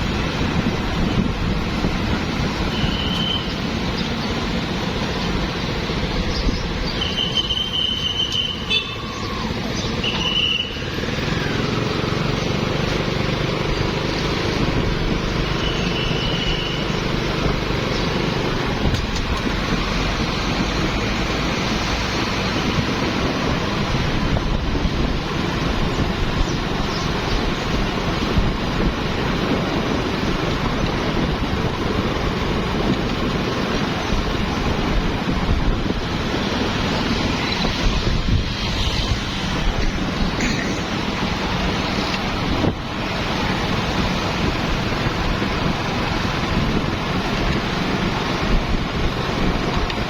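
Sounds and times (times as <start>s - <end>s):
street traffic rumble: 0.0s - 50.0s.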